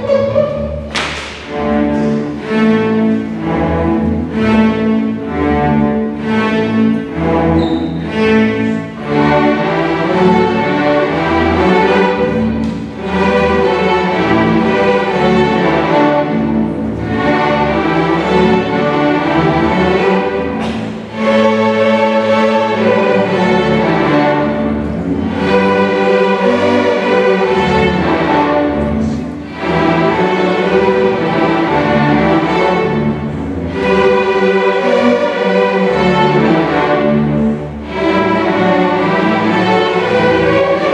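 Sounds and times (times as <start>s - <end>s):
string orchestra playing: 0.0s - 40.9s.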